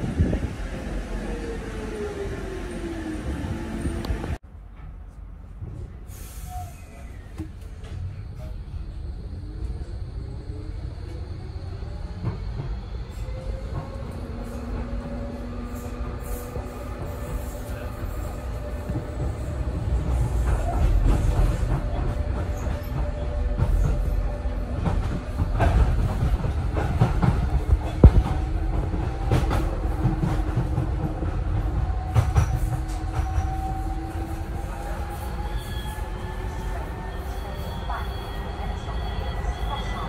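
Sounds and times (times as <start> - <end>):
train rumbling on track: 0.0 - 40.0.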